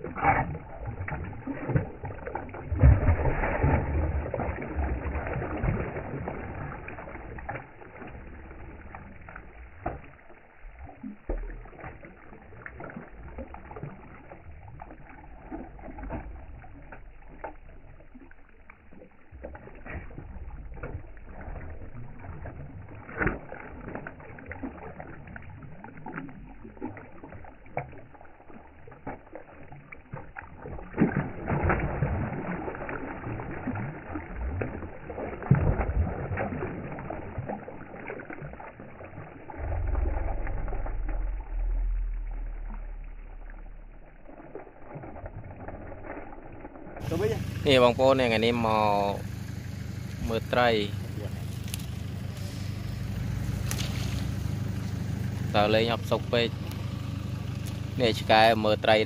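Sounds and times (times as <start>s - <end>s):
fish splashing at water surface: 0.0s - 59.0s.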